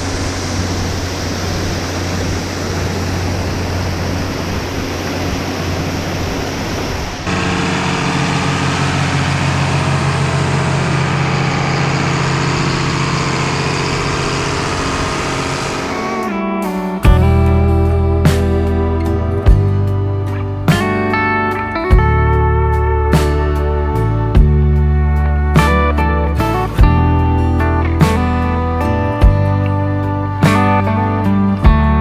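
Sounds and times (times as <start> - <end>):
large vehicle engine running: 0.0 - 32.0.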